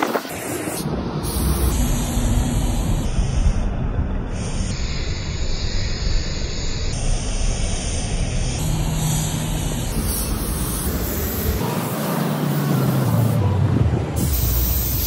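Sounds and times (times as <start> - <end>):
spray can hissing: 0.0 - 3.2, 4.4 - 13.4, 14.2 - 15.0
continuous low rumble: 0.0 - 15.0.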